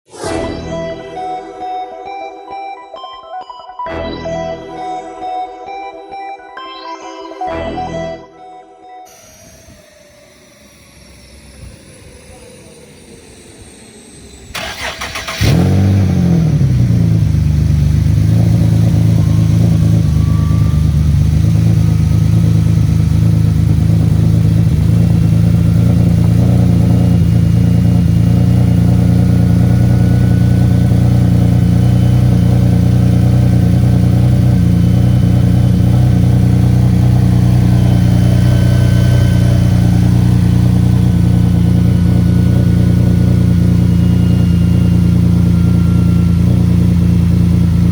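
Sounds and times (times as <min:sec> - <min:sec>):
car engine starting and idling: 0:09.1 - 0:47.9.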